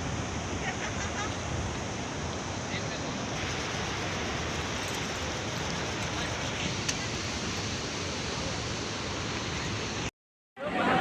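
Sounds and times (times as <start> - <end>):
waterfall roaring: 0.0 - 10.1.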